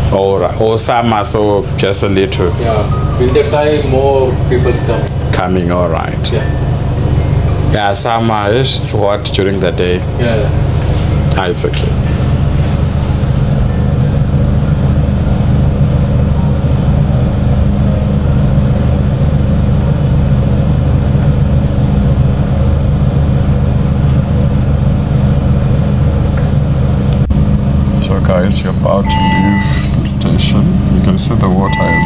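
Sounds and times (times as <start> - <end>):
boat machinery droning: 0.0 - 32.0.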